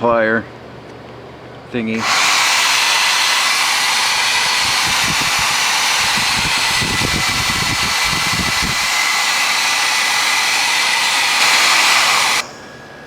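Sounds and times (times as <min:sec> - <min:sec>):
hair dryer running: 0:02.0 - 0:12.7.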